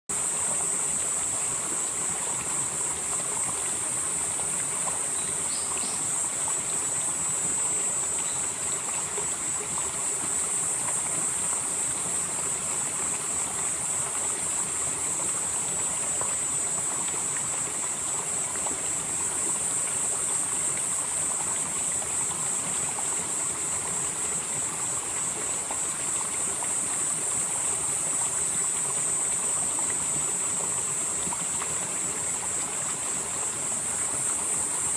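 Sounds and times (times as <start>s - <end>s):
stream flowing: 0.1s - 34.9s
high insect drone: 0.2s - 34.9s.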